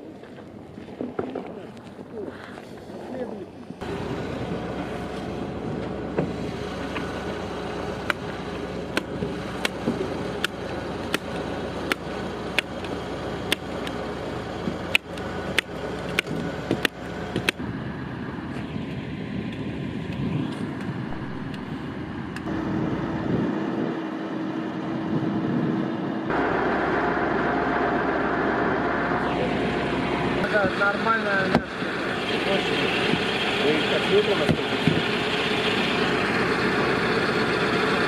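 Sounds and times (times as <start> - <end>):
crane engine running: 0.0 - 38.0
steady hum: 0.0 - 38.0.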